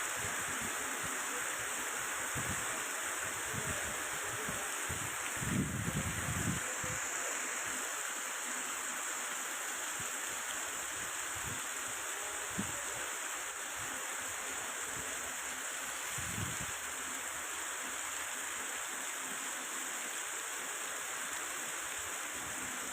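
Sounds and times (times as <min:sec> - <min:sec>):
heavy rain: 0:00.0 - 0:22.9
running water: 0:00.0 - 0:22.9.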